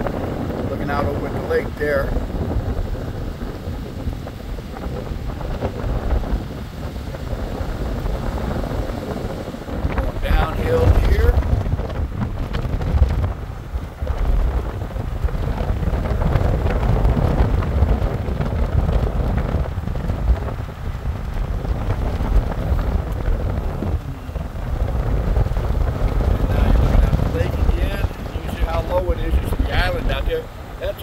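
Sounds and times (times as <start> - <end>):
vehicle road noise: 0.0 - 31.0
wind buffeting microphone: 0.0 - 31.0.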